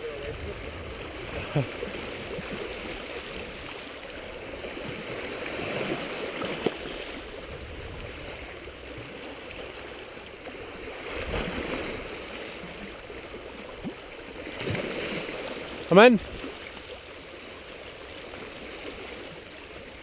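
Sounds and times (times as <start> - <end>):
waves washing over rocks: 0.0 - 20.0.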